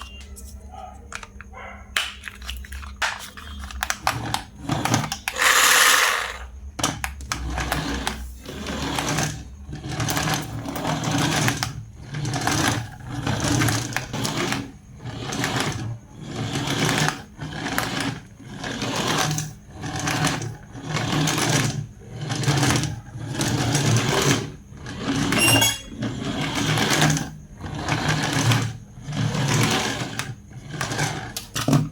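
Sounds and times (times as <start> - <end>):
toy car motor whirring: 3.4 - 31.9.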